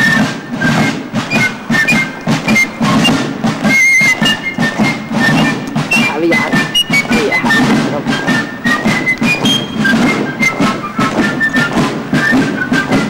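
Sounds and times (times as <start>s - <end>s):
fifes piping melody: 0.0s - 13.0s
steady drumming: 0.0s - 13.0s.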